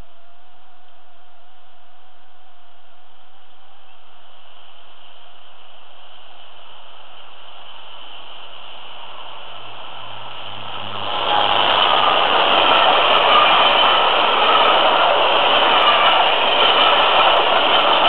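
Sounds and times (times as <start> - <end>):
background hiss: 0.0 - 18.0
diesel locomotive engine: 0.0 - 18.0
train rumble: 0.0 - 18.0.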